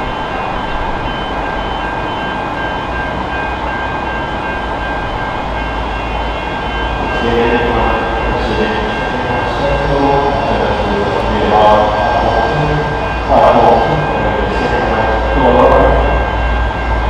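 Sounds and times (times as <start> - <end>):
diesel locomotives rumbling: 0.0 - 17.0
rapidly repeating high ringing: 0.0 - 17.0.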